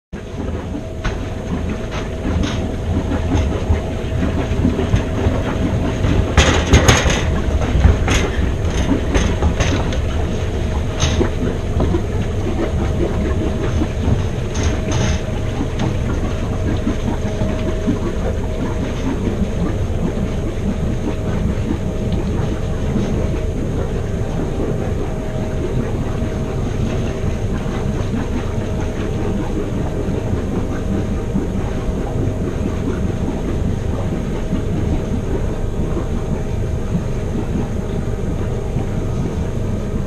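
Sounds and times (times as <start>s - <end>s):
boat engine running: 0.2s - 40.0s.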